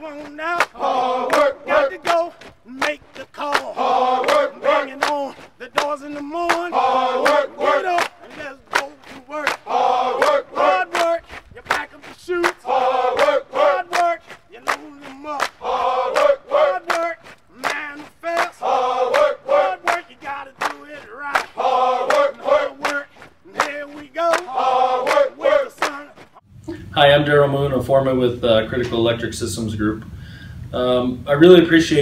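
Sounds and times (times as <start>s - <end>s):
workers chanting in unison: 0.0s - 26.4s.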